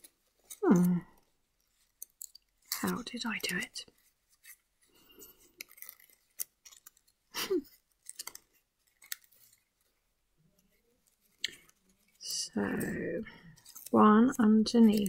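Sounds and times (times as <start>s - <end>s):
paper rustling and crinkling: 0.0s - 12.3s, 13.3s - 15.0s.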